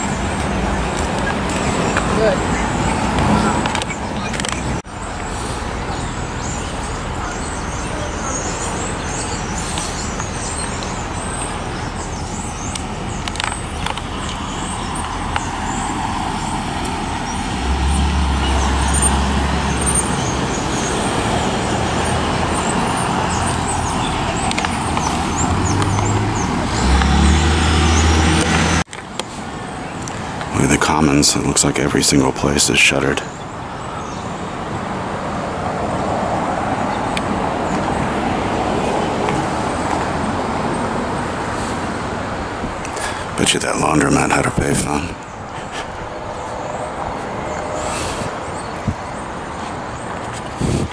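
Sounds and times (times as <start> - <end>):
heavy vehicles rumbling past: 0.0 - 50.9
passing cars: 0.0 - 50.9.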